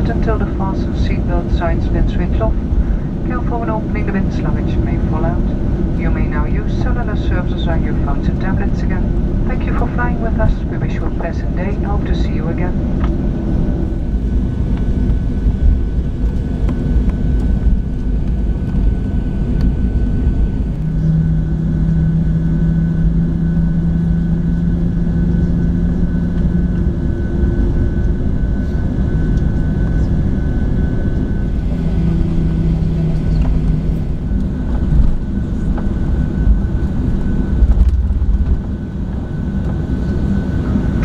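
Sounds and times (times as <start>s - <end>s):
jet engines idling rumble: 0.0s - 41.0s
lower hum: 0.0s - 41.0s.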